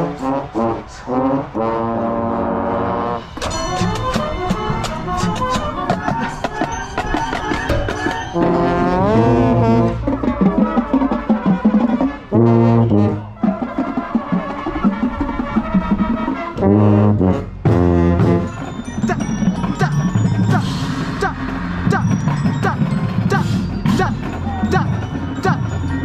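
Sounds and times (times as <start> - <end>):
marching band brass playing: 0.0 - 26.0
tuba low notes: 0.0 - 26.0.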